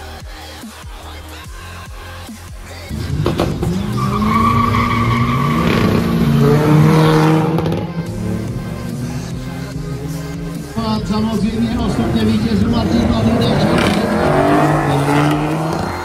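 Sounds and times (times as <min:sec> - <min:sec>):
cars accelerating hard: 0:02.9 - 0:16.0.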